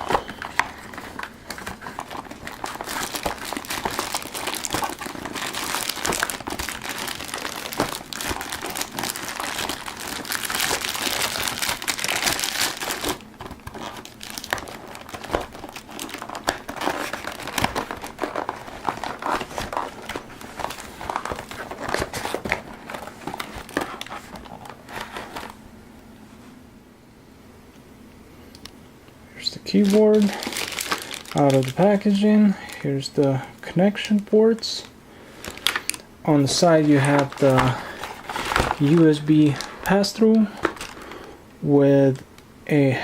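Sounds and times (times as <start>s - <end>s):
packaging crinkling and rustling: 0.0s - 25.6s, 29.6s - 41.4s.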